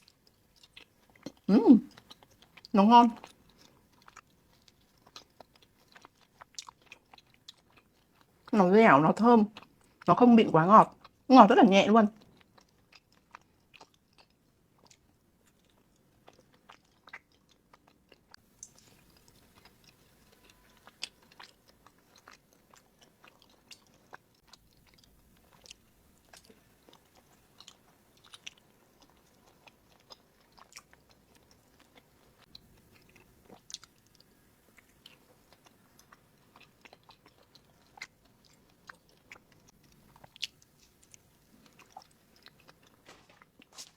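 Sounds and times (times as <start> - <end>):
chewing mouth clicks and smacks: 0.0 - 8.5, 12.2 - 43.9.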